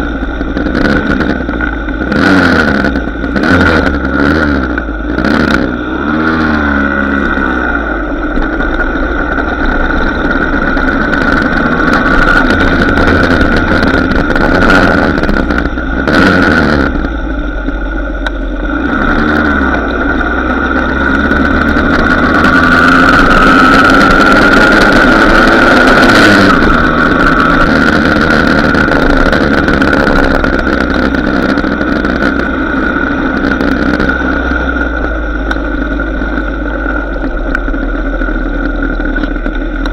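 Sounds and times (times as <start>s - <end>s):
small motorcycle engines running: 0.0s - 39.9s.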